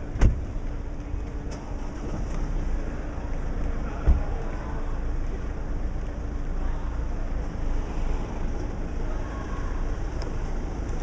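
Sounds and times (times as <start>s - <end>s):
city background rumble: 0.0s - 11.0s.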